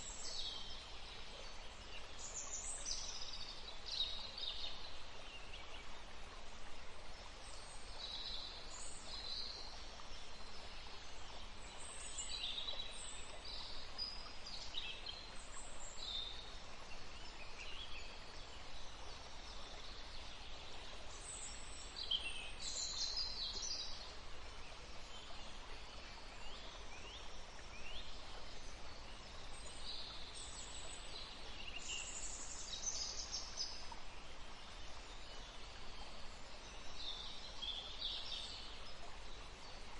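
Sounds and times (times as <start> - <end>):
gentle breeze: 0.0 - 39.9.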